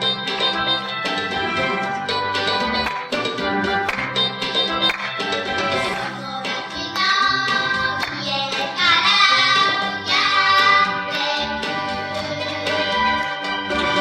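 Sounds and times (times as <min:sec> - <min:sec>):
high voice singing: 0:00.0 - 0:13.8
instrumental accompaniment: 0:00.0 - 0:14.0.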